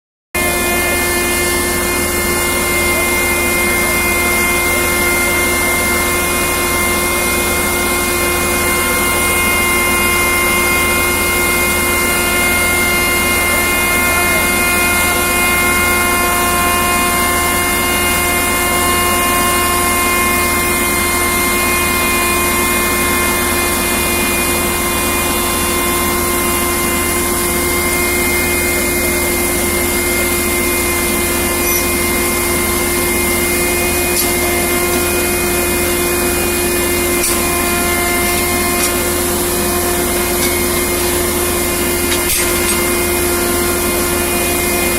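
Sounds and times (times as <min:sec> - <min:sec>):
machinery drone with whining tones: 0:00.4 - 0:44.9.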